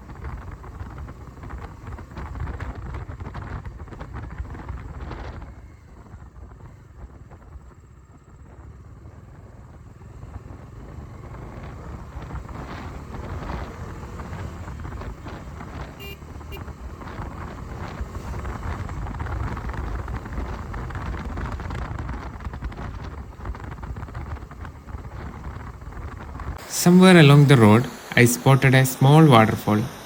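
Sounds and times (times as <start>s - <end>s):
motorcycle engine rumble: 0.0s - 26.7s.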